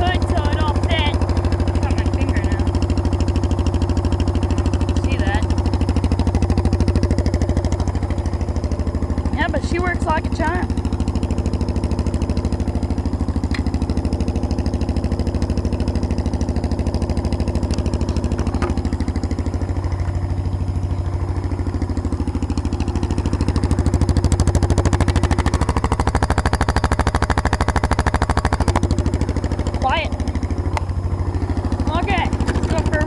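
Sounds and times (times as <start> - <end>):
lawn tractor engine idling: 0.0 - 33.0.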